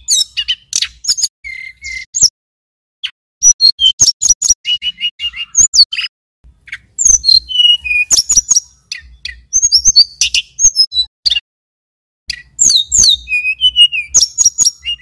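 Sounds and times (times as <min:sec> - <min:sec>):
bird singing chirps and whistles: 0:00.0 - 0:02.3, 0:03.0 - 0:11.4, 0:12.3 - 0:15.0.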